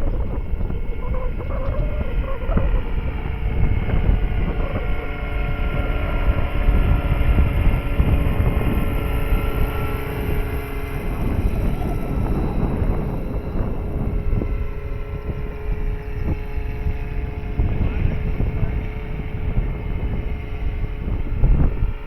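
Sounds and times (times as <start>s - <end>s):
model helicopter whine: 0.0s - 22.0s
wind buffeting microphone: 0.0s - 22.0s.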